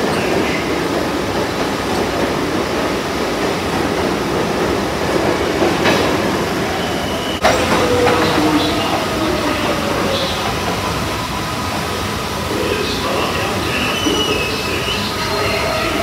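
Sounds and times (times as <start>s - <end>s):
subway train wheels rumbling: 0.0s - 16.0s.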